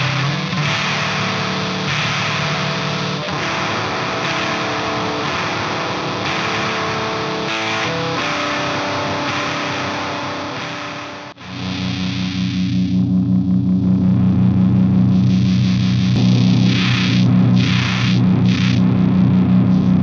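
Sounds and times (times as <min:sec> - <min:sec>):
fuzzed electric guitar chords: 0:00.0 - 0:20.0.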